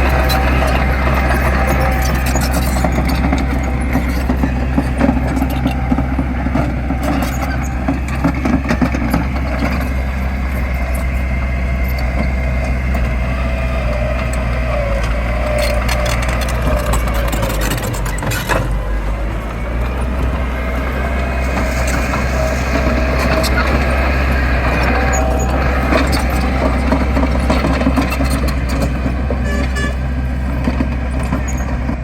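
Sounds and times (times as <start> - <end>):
clanks and knocks: 0.0 - 11.2, 14.0 - 32.0
heavy machinery diesel engine: 0.0 - 32.0.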